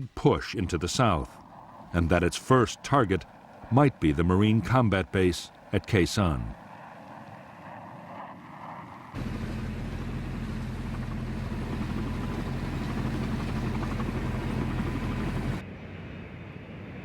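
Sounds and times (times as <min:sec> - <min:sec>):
engine drone: 0:01.2 - 0:17.0.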